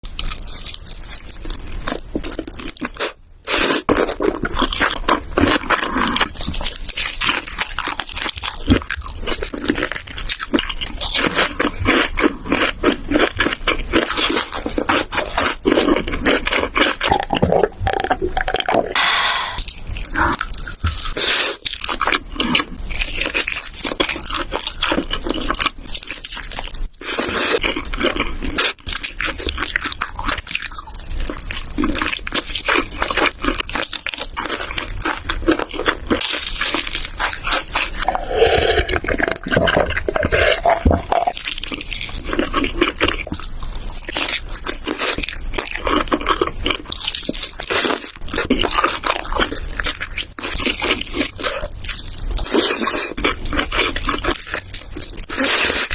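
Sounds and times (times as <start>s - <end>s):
person chewing noodles: 0.0s - 55.9s.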